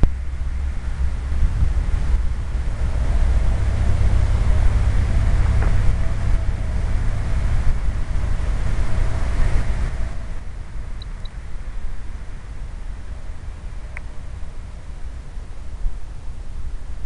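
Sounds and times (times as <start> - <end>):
faint wavering whine: 0.0 - 17.0
wind buffeting microphone: 0.0 - 17.0.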